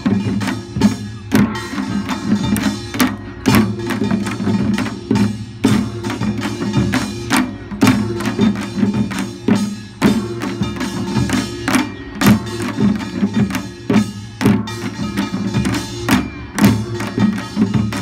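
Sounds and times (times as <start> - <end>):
drum and gong strikes: 0.0 - 18.0.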